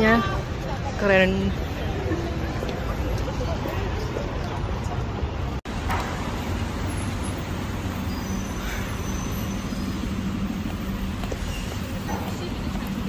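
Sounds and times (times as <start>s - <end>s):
rumble of passing vehicles: 0.0s - 13.0s
engine hum: 0.4s - 13.0s.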